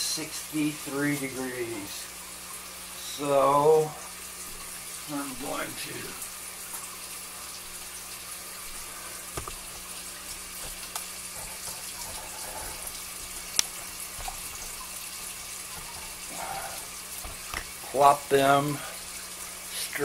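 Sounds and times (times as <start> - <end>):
aquarium water splashing: 0.0 - 20.0.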